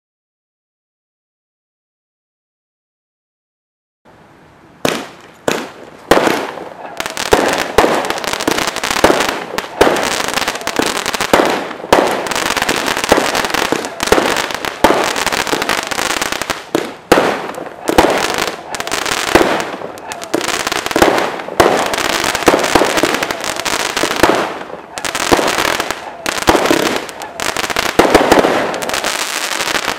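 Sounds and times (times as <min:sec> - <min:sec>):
fireworks bursts: 0:04.8 - 0:29.9
fireworks launch pops: 0:04.8 - 0:29.9.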